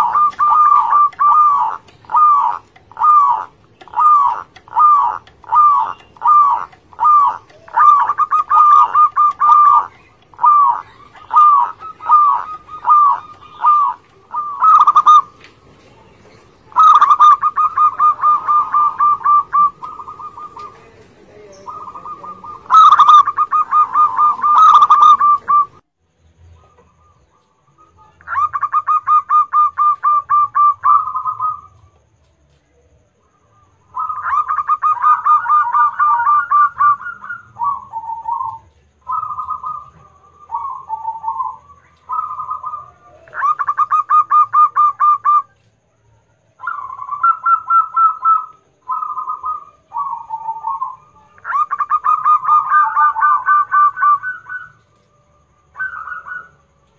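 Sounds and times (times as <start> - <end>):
dove cooing: 0.0 - 25.8, 26.5 - 32.1, 33.3 - 55.0, 55.7 - 56.9.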